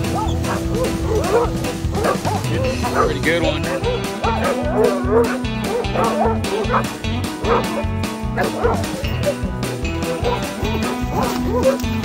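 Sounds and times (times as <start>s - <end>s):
background music with steady beat: 0.0s - 12.0s
dogs barking and yipping: 0.0s - 12.0s.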